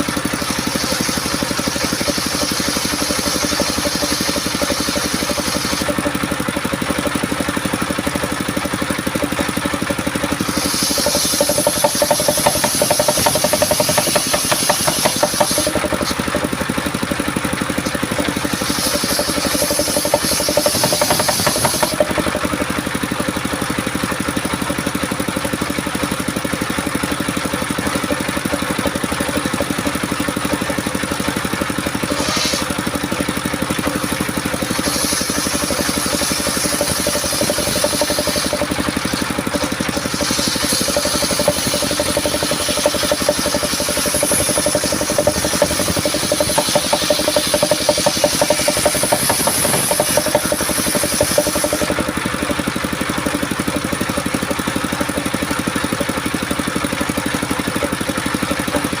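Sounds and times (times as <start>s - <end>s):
circular saw engine running: 0.0s - 59.0s
saw blade cutting wood: 0.0s - 59.0s.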